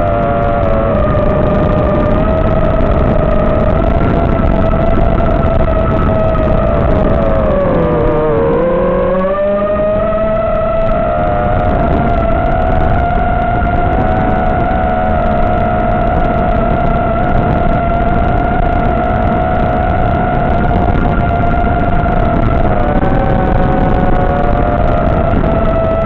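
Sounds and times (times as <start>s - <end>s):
drone motor and propeller whine: 0.0s - 26.0s
steady rush of noise: 0.0s - 26.0s.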